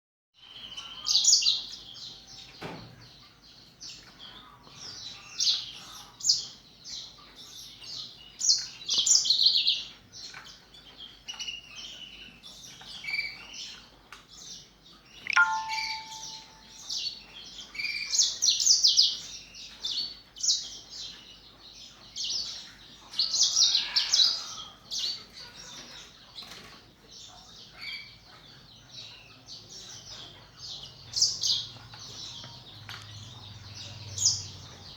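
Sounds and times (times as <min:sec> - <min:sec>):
canaries singing trills: 0:00.4 - 0:34.9.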